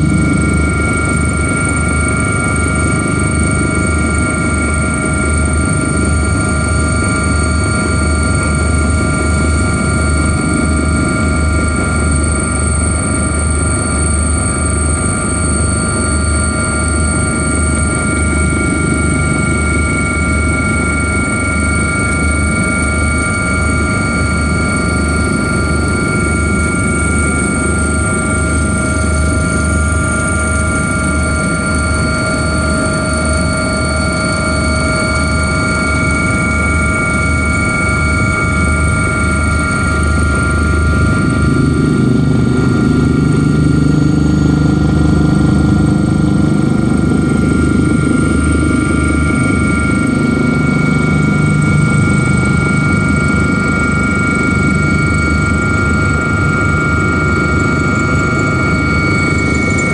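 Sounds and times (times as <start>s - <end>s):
helicopter engine and rotor drone: 0.0s - 59.9s
high whining tones: 0.0s - 59.9s.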